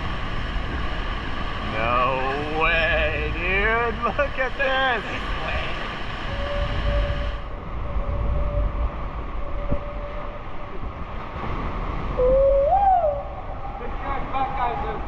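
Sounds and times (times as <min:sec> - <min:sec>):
outboard motors rumbling: 0:00.0 - 0:15.0
water churning around hull: 0:00.0 - 0:15.0.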